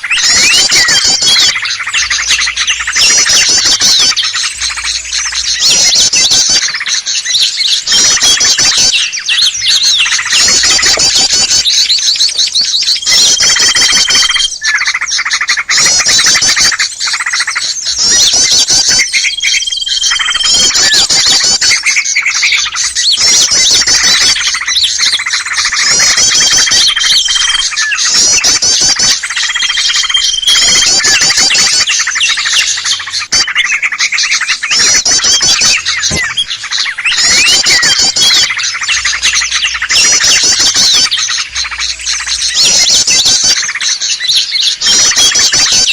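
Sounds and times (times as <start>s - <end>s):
small birds chattering: 0.0s - 45.9s.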